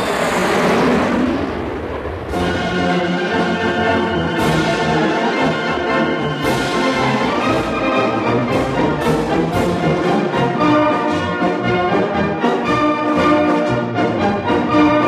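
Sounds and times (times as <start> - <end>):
orchestral brass music: 2.3 - 15.0.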